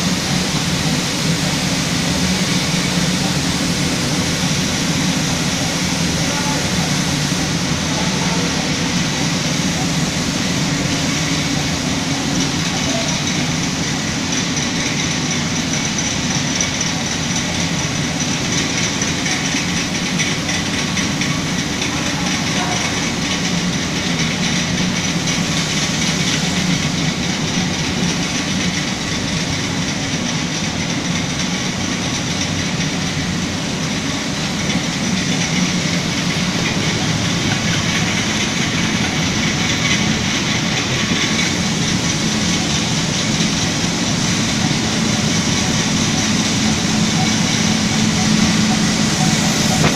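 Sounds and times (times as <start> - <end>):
foam cutting machine running: 0.0 - 49.9.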